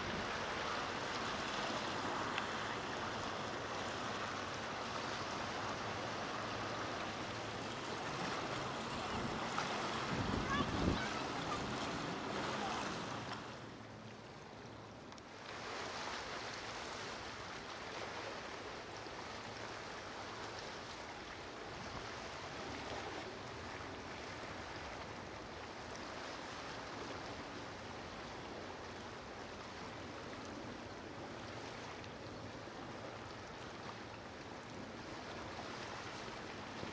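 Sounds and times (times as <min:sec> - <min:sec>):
waves and churning water: 0:00.0 - 0:36.9.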